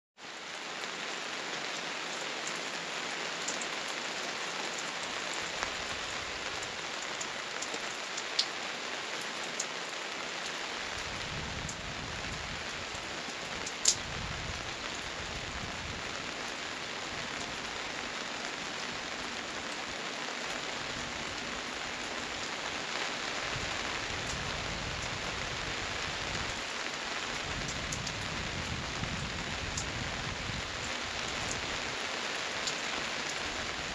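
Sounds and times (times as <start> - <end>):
gentle rain falling: 0.2 - 33.9.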